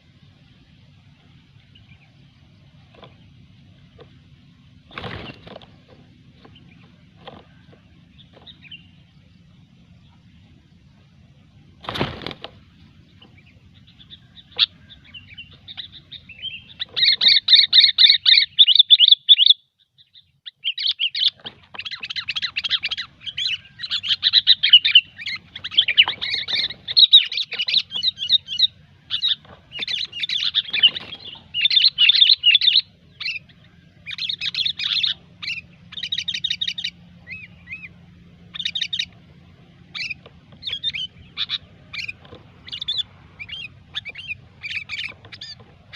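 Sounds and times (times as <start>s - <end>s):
bulbul chattering song: 0.0s - 45.9s.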